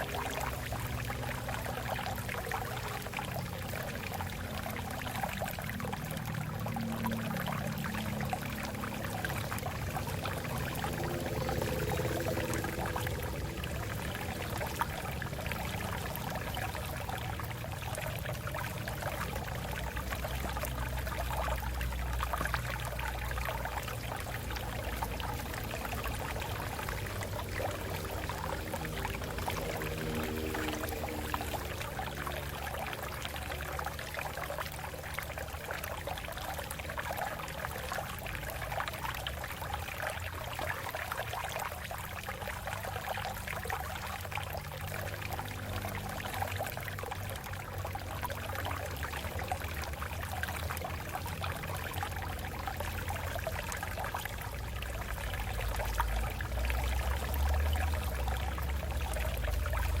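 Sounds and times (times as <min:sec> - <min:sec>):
water splashing over rocks: 0:00.0 - 1:00.0.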